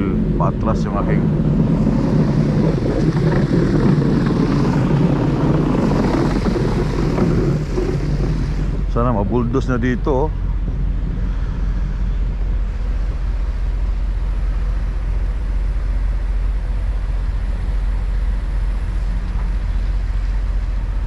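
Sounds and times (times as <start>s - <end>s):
diesel truck engine rumbling: 0.0s - 21.0s.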